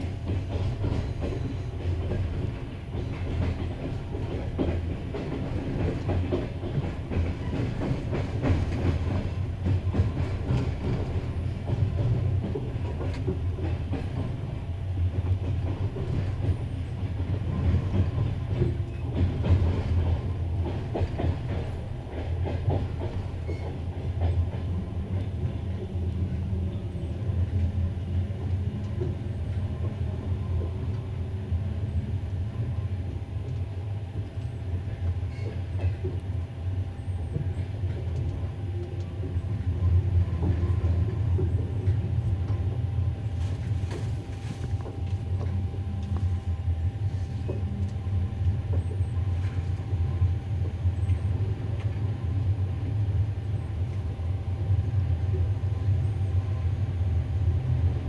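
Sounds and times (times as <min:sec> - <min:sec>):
rail joint clicks: 0:00.0 - 0:58.0
wheels rumbling on rails: 0:00.0 - 0:58.0.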